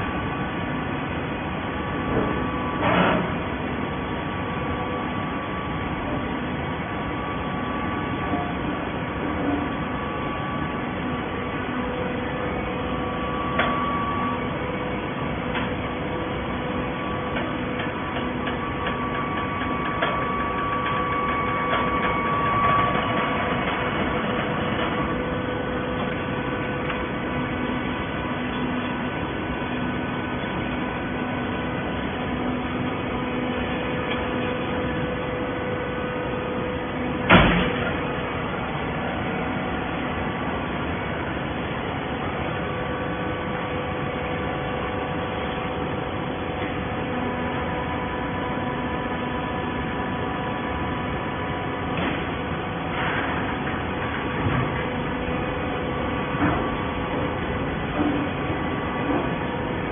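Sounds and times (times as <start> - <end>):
baler machine drone: 0.0 - 59.9.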